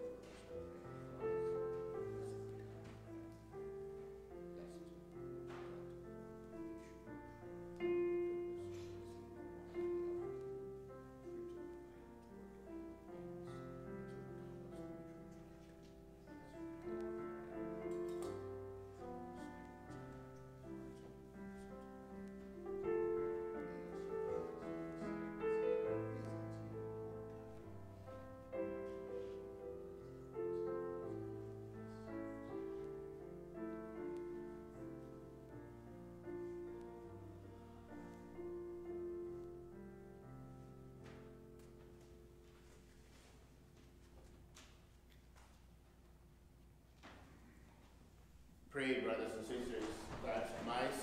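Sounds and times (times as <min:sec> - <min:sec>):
slow keyboard chords: 0:00.0 - 0:44.3.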